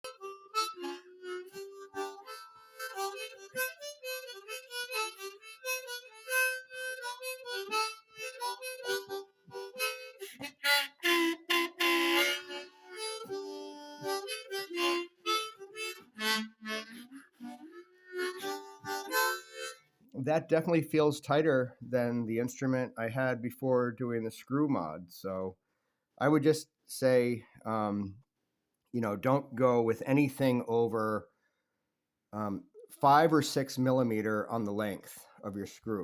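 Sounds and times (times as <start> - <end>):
harmonica notes and chords: 0.0 - 25.4, 32.4 - 36.0.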